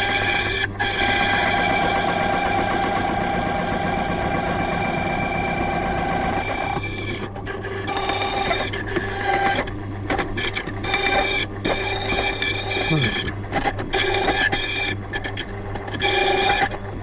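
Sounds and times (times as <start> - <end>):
key-cutting machine whining: 0.0 - 17.0.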